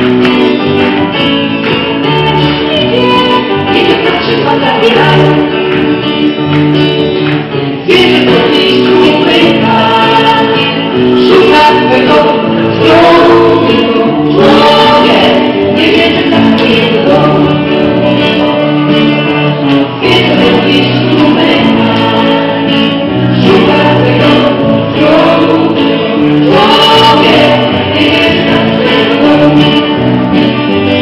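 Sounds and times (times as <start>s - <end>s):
acoustic guitar: 0.0s - 31.0s
bass guitar: 0.0s - 31.0s
keyboard: 0.0s - 31.0s
women singing together: 2.2s - 5.5s, 7.8s - 19.4s, 20.0s - 31.0s.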